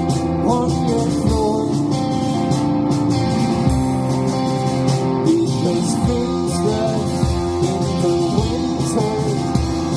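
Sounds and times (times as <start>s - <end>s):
electric guitar: 0.0s - 9.9s
live band playing: 0.0s - 9.9s.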